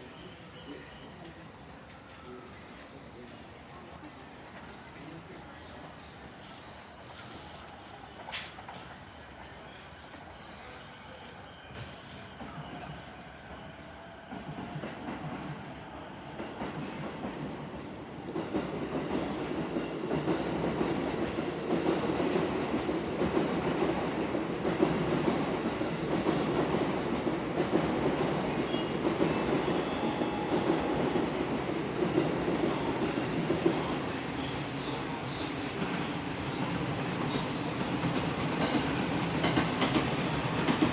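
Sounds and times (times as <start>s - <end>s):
electric train rumble and wheel clatter: 0.0s - 40.9s.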